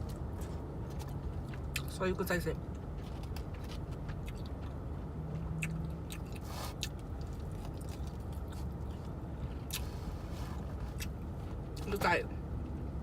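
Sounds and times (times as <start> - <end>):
chewing and lip-smacking: 0.0 - 9.9, 10.6 - 11.9.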